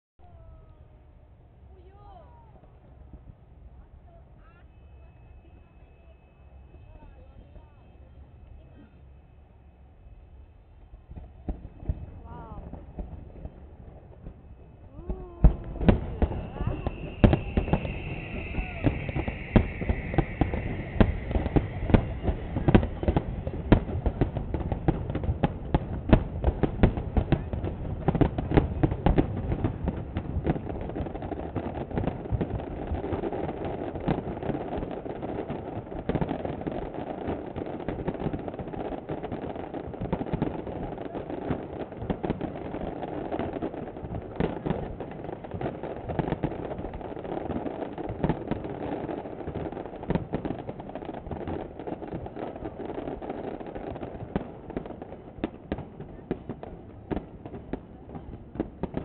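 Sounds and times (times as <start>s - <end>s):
background murmur: 0.2s - 59.0s
fireworks bangs and crackles: 1.7s - 59.0s.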